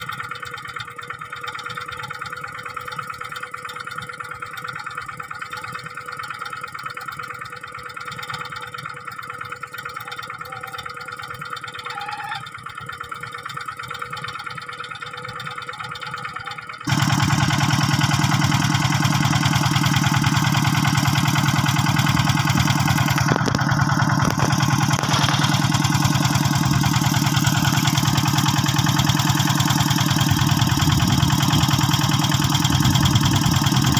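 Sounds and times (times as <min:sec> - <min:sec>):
hand tractor diesel engine running: 0:00.0 - 0:33.9.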